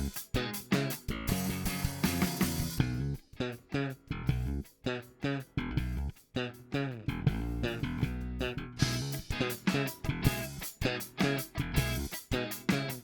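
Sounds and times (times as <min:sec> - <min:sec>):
plucked electric bass notes: 0:00.0 - 0:13.0.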